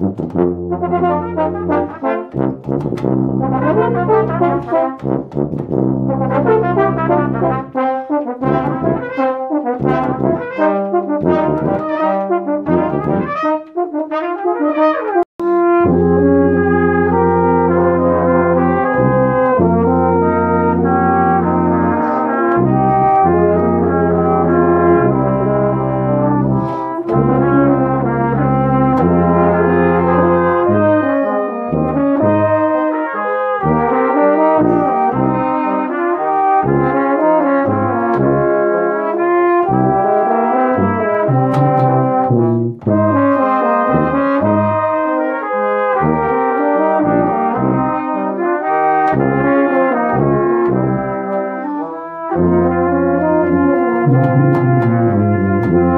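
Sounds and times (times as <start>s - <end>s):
brass ensemble playing: 0.0s - 55.9s.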